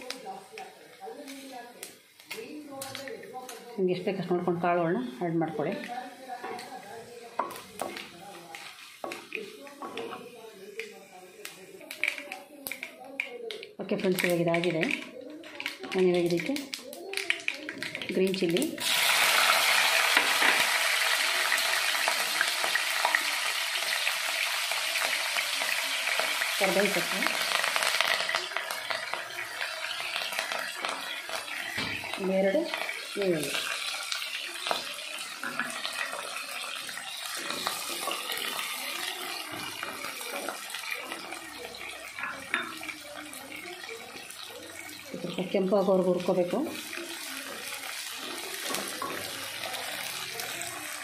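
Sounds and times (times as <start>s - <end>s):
chillies sizzling in hot oil: 0.0s - 51.0s.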